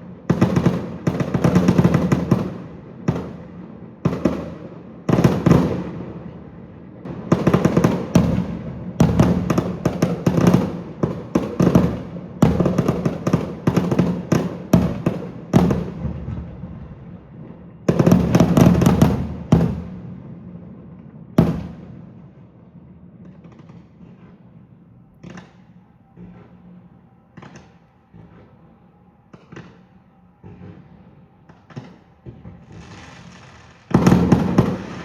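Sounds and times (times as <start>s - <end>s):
fireworks bursting: 0.0s - 20.4s, 21.3s - 22.5s, 23.2s - 35.0s.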